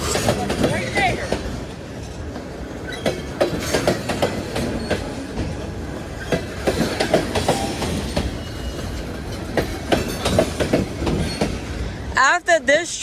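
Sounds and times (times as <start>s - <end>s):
freight train rumble: 0.0s - 13.0s
train wheels clicking on rails: 0.0s - 13.0s.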